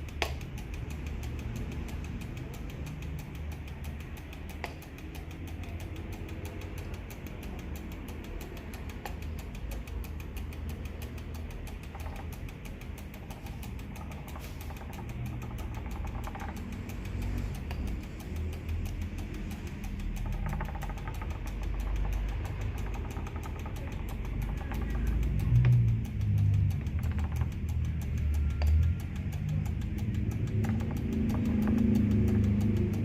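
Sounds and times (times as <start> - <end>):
light clicks: 0.0 - 33.0
mechanical timer ticking: 0.0 - 33.0.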